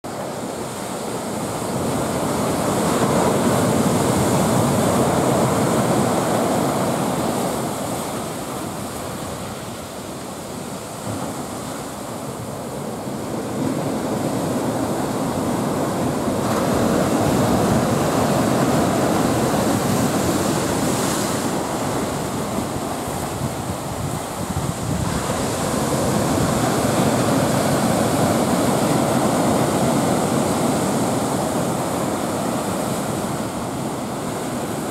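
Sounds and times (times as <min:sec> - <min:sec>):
heavy surf breaking: 0:00.1 - 0:34.9
wind on microphone: 0:00.1 - 0:34.9.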